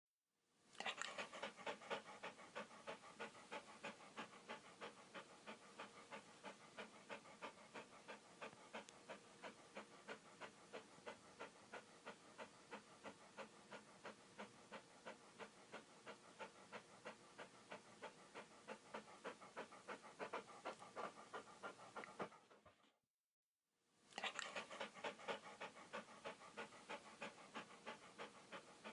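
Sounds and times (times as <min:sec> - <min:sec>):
dog panting: 0:00.8 - 0:23.0, 0:24.2 - 0:28.9.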